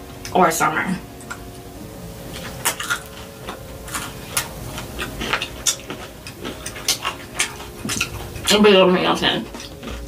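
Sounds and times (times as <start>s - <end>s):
wet chewing: 1.2s - 10.0s.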